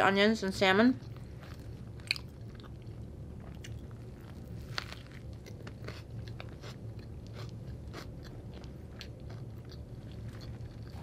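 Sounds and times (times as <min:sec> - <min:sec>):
steady low hum: 0:00.0 - 0:11.0
chewing crunches: 0:01.0 - 0:11.0.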